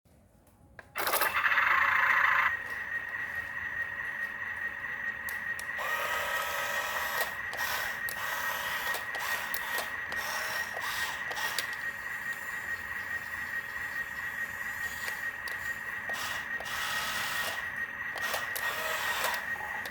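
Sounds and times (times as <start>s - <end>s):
toy truck electric motor whine: 1.0s - 19.9s.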